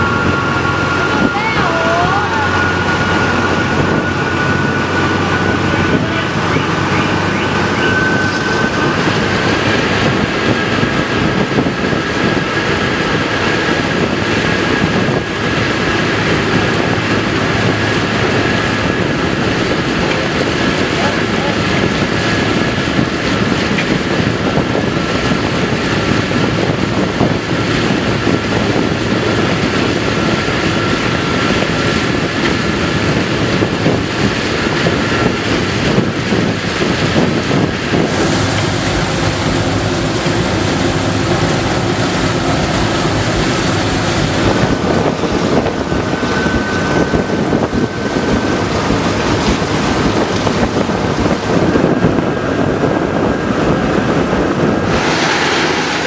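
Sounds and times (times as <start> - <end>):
low droning engine: 0.0 - 56.0
train running: 0.0 - 56.0
water churning and splashing: 0.0 - 56.0
wind on microphone: 0.0 - 56.0.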